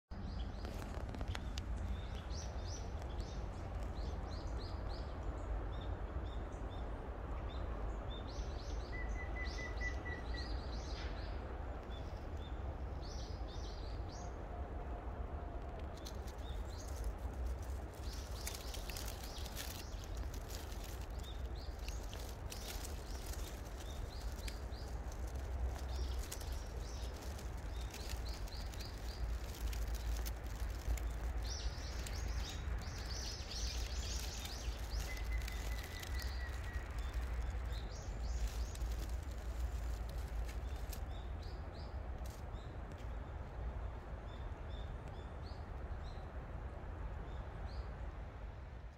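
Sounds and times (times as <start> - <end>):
small birds chirping: 0.1 - 14.4, 15.8 - 43.5
low rumble and hiss: 0.1 - 48.9.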